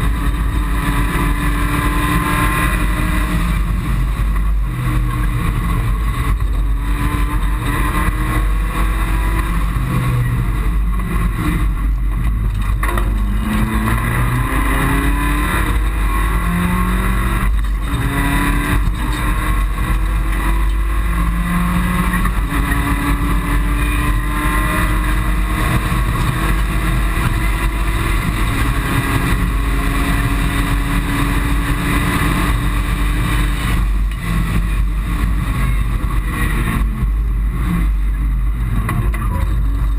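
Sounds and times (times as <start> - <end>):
car engine accelerating: 0.0 - 39.9
low road and cabin rumble: 0.0 - 39.9.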